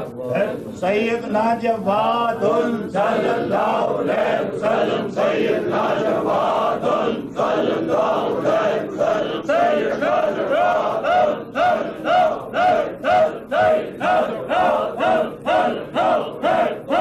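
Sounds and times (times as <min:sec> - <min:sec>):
men chanting: 0:00.4 - 0:17.0.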